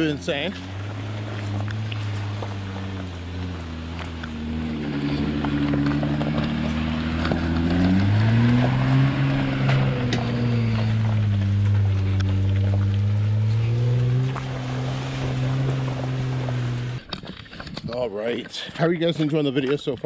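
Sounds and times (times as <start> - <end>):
car engine passing slowly: 0.0 - 17.1
gravel crunching under tyres: 0.0 - 20.0.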